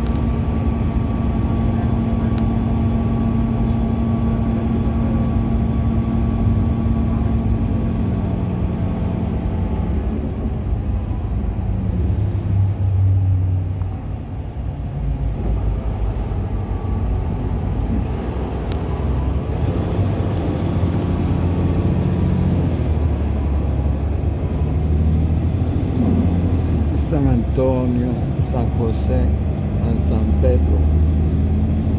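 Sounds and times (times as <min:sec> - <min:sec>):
bus engine: 0:00.0 - 0:31.9
road noise: 0:00.0 - 0:31.9.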